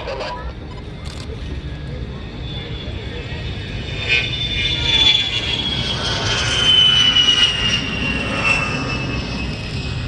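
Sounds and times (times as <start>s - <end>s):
jet engines whining: 0.0s - 10.0s
jet rumble: 0.0s - 10.0s.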